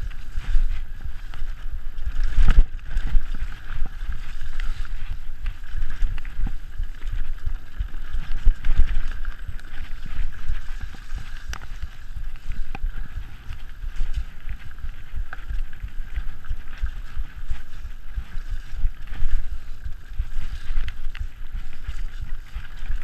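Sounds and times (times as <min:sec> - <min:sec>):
bike knocking and rattling: 0:00.0 - 0:23.0
wind and tyres rumbling: 0:00.0 - 0:23.0.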